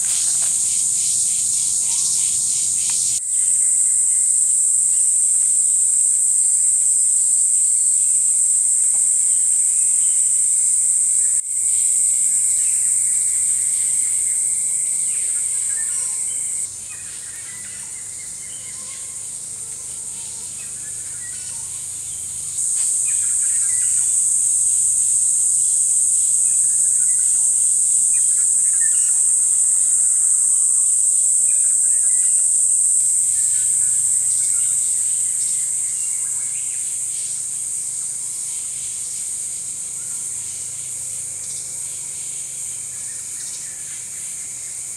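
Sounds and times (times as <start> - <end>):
insect chorus shrilling: 0.0 - 44.9.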